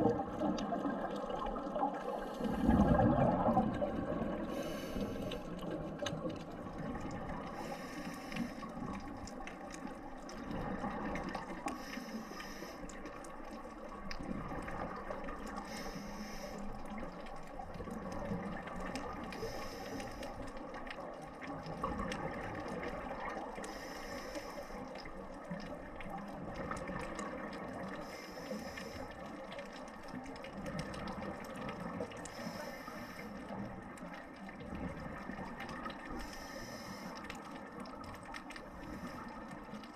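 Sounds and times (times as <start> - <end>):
exhaled bubbles underwater: 0.0 - 39.9
muffled wash of water: 0.0 - 39.9.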